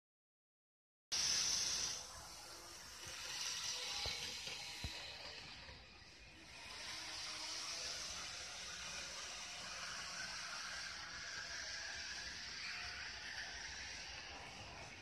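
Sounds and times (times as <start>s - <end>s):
model train running on track: 1.2s - 15.0s.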